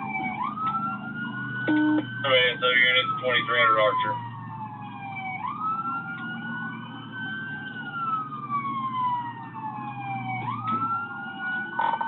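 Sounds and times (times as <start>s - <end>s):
car engine and road noise: 0.0s - 12.0s
police siren wailing: 0.0s - 12.0s.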